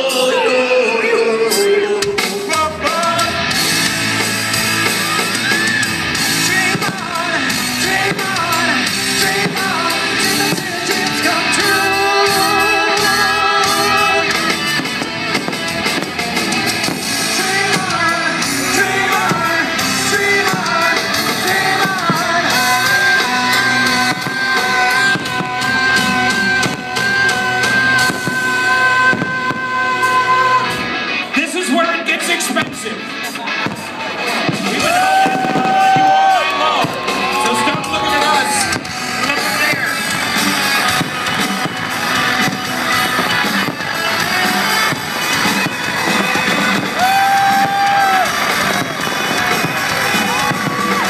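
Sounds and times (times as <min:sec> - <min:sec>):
rock music with singer: 0:00.0 - 0:51.0.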